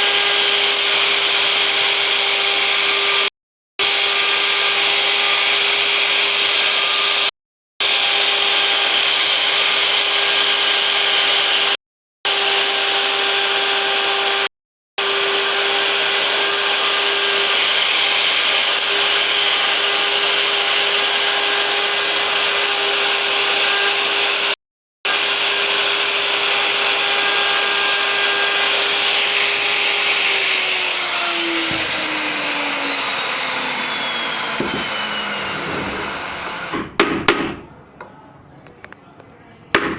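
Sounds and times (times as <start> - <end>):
router spindle whine: 0.0 - 36.8
bit cutting wood: 0.0 - 37.7.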